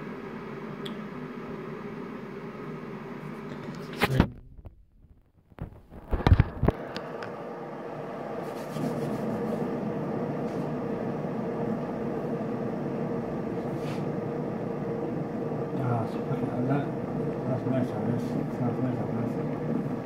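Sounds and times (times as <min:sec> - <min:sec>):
mechanical hum with whine: 0:00.0 - 0:20.0.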